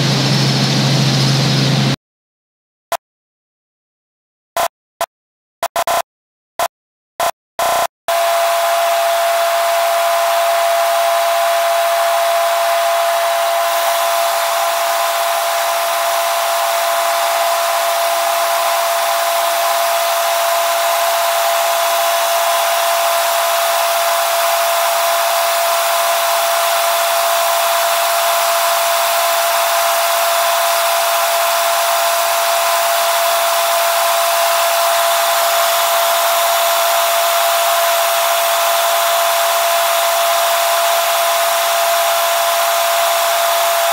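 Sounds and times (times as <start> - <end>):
constant high whine: 0.0 - 2.0, 7.6 - 43.9.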